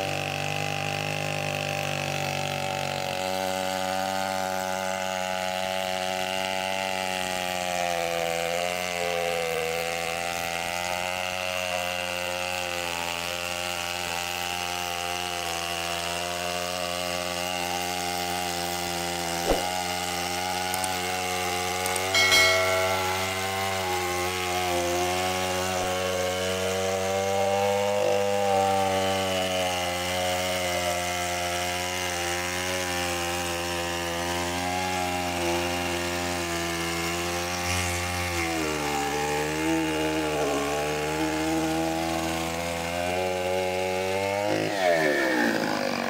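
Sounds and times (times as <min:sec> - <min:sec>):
chainsaw cutting through log: 0:00.0 - 0:46.0.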